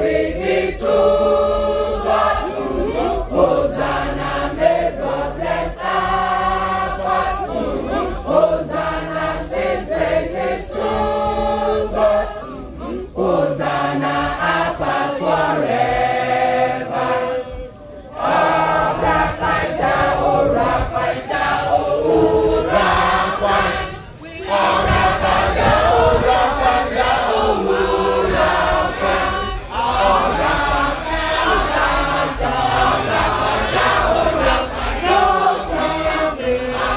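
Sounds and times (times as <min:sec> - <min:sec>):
group of men and women singing: 0:00.0 - 0:36.9.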